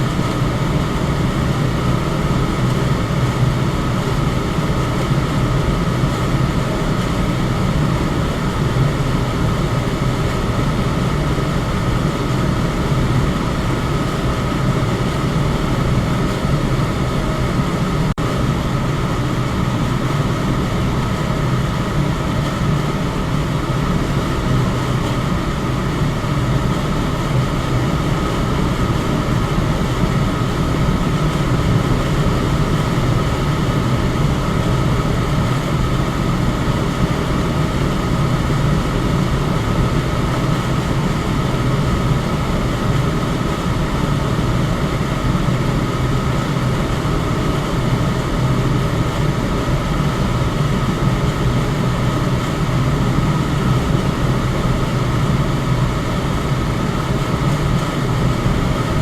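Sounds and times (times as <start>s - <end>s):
electric fan hum: 0.0s - 59.0s
faint steady whine: 0.0s - 59.0s.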